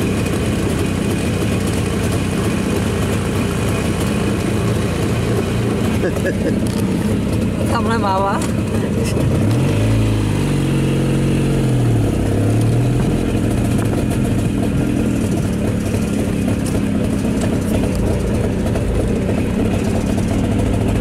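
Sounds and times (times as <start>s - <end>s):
two-stroke engine running: 0.0s - 21.0s.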